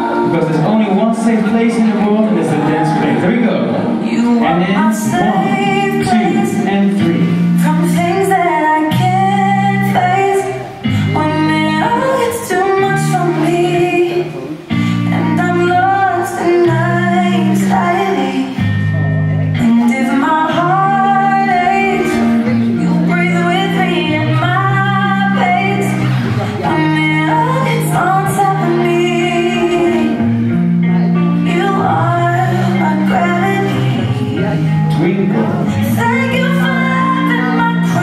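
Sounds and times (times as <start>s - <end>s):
woman singing: 0.0s - 0.4s, 3.9s - 34.9s, 35.6s - 38.0s
pop song: 0.0s - 38.0s.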